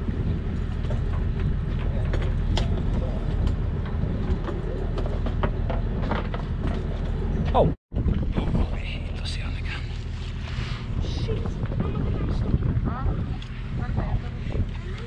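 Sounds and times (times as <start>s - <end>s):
boat engine humming: 0.0s - 15.0s
wind on microphone: 0.0s - 15.0s.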